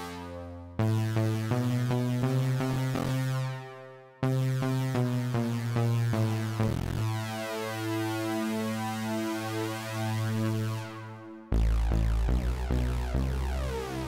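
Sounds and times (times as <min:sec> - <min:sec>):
synthesizer lead notes: 0:00.0 - 0:14.0.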